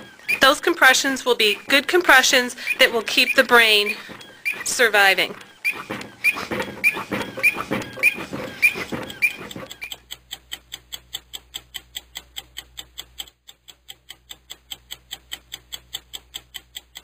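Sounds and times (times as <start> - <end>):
fast even ticking: 0.0 - 17.0.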